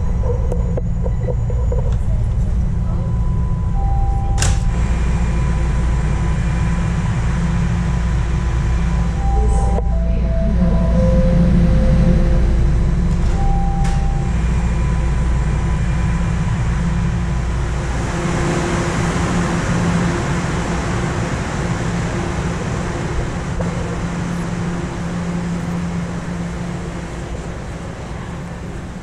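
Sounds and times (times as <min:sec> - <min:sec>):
steady hum: 0:00.0 - 0:29.0
subway train rumble: 0:00.0 - 0:29.0.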